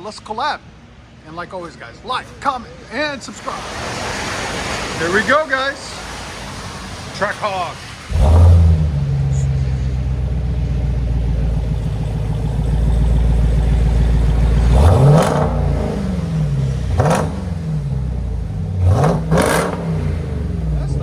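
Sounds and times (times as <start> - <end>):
car engine starting and revving: 3.3 - 21.0.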